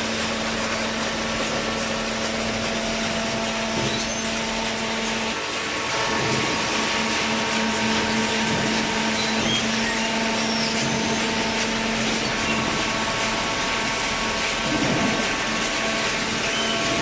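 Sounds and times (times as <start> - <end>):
hydraulic baler motor hum: 0.0 - 17.0.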